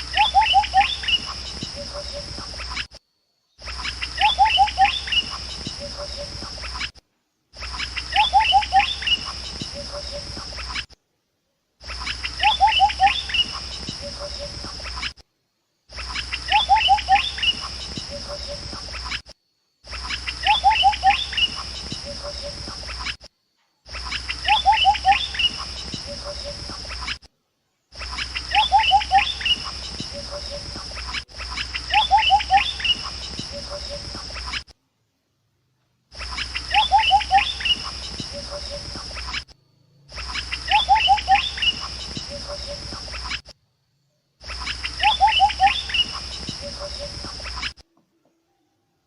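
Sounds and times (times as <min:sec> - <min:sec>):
high insect drone: 0:00.0 - 0:10.9, 0:11.8 - 0:27.2, 0:27.8 - 0:34.8, 0:36.1 - 0:47.8
bird chirping: 0:00.0 - 0:11.0, 0:11.8 - 0:15.2, 0:15.9 - 0:34.8, 0:36.1 - 0:43.5, 0:44.1 - 0:48.9.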